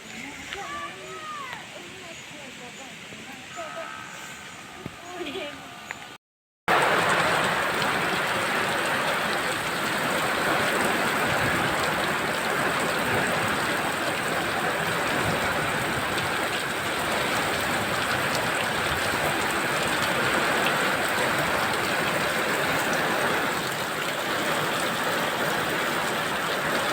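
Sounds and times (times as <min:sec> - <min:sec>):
heavy rain hissing: 0:00.0 - 0:06.1, 0:06.7 - 0:26.9.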